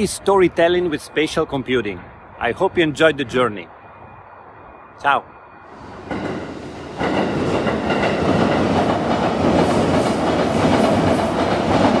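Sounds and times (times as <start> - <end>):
light rail train rumbling past: 0.0 - 12.0.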